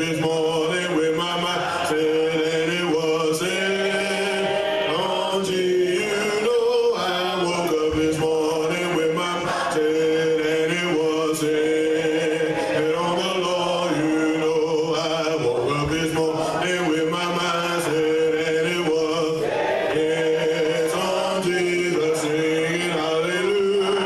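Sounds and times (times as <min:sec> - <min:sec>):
man singing: 0:00.0 - 0:24.0.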